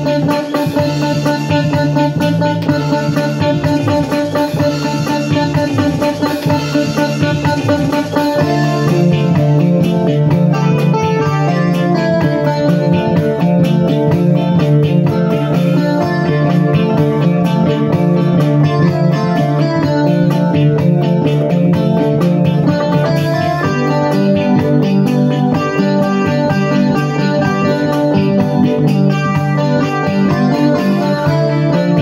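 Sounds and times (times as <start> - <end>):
electronic keyboard tune: 0.0 - 32.0.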